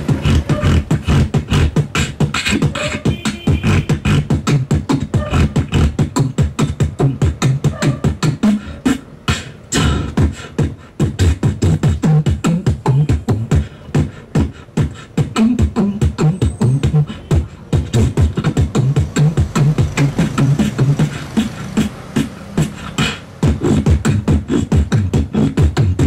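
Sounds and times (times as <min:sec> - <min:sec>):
person beatboxing: 0:00.0 - 0:26.0.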